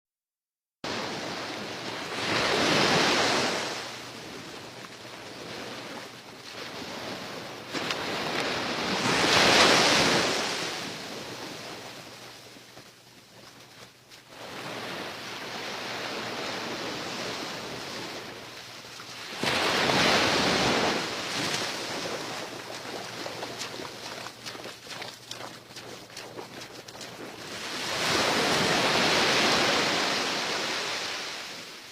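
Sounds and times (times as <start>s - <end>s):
surf washing ashore: 0.9s - 31.9s
waves breaking: 0.9s - 31.9s.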